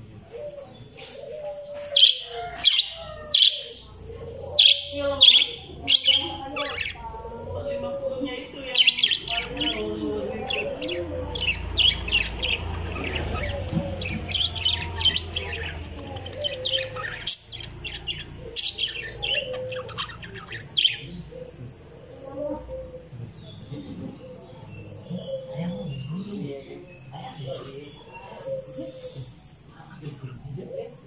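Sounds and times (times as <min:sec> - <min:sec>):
parakeets chirping: 0:00.0 - 0:31.0.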